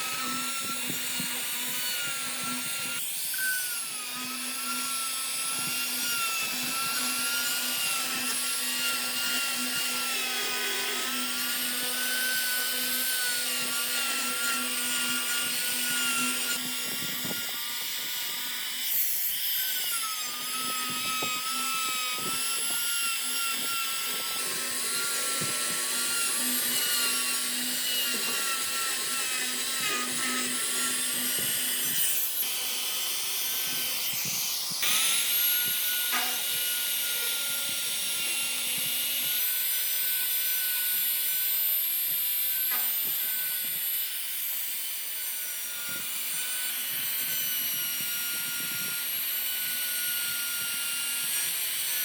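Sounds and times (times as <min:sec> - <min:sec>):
hissing wood cutting: 0:00.0 - 0:52.0
power tool motor whining: 0:00.0 - 0:52.0.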